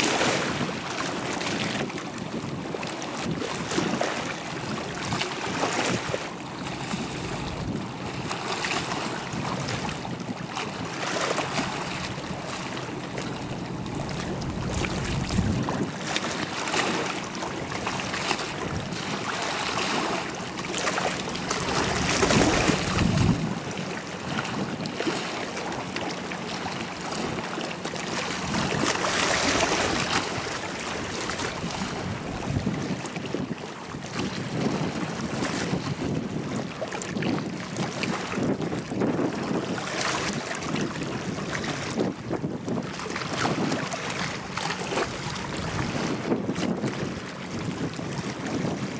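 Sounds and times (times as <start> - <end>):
ferry wake water rushing: 0.0 - 48.9
wind buffeting microphone: 0.0 - 48.9
faint low engine hum: 0.6 - 48.9.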